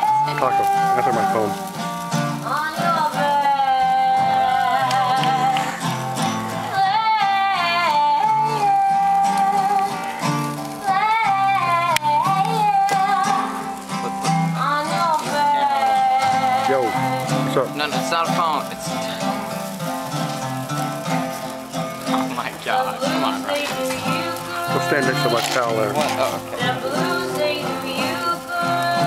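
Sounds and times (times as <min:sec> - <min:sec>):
high singing voice with vibrato: 0:00.0 - 0:01.8, 0:02.4 - 0:17.5, 0:22.5 - 0:29.0
strummed acoustic guitar: 0:00.0 - 0:29.0.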